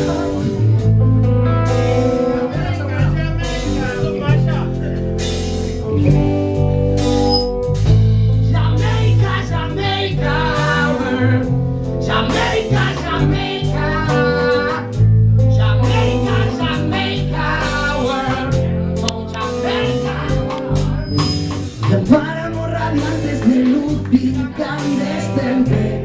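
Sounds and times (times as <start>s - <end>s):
man singing: 0.0s - 0.9s, 1.6s - 4.8s, 8.3s - 26.0s
bass guitar: 0.0s - 26.0s
drum kit: 0.0s - 26.0s
electric guitars: 0.0s - 26.0s.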